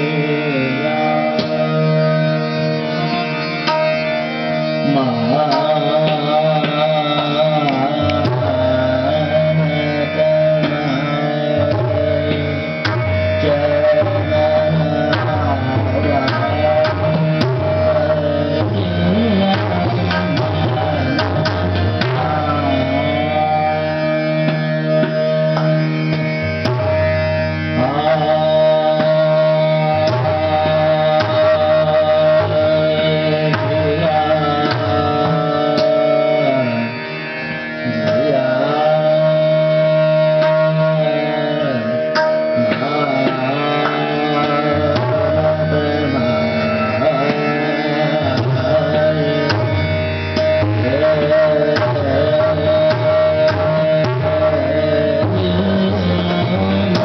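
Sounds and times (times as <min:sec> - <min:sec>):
man singing: 0:00.0 - 0:03.4, 0:04.3 - 0:26.9, 0:27.6 - 0:37.1, 0:37.8 - 0:57.0
steady drone: 0:00.0 - 0:57.0
tabla strokes: 0:00.0 - 0:57.0.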